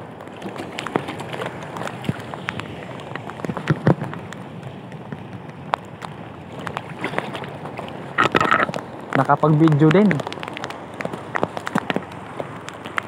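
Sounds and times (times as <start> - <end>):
rain pattering on sea water: 0.0 - 13.0.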